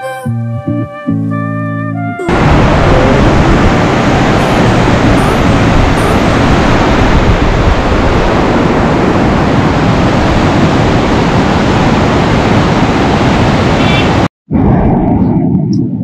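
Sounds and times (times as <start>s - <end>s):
vehicle road and wind noise: 2.3s - 16.0s.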